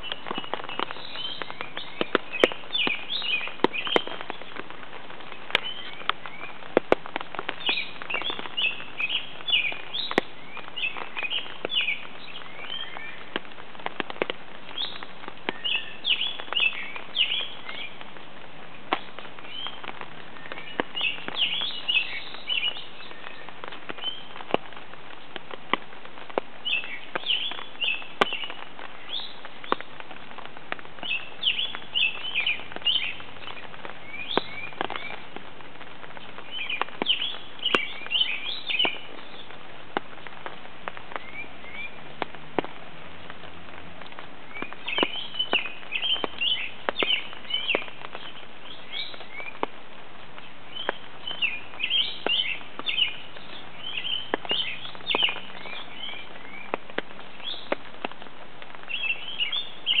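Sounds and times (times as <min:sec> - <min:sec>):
raindrops tapping on umbrella: 0:00.0 - 1:00.0
songbirds chirping: 0:00.0 - 1:00.0
steady hiss of rain: 0:00.0 - 1:00.0.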